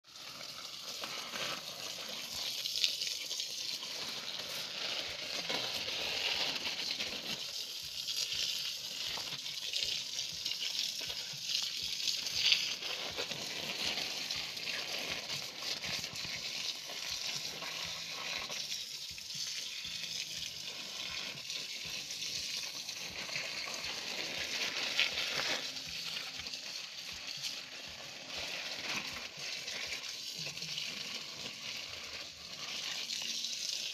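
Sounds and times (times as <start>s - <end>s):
hose water spraying on leaves: 0.0s - 33.9s.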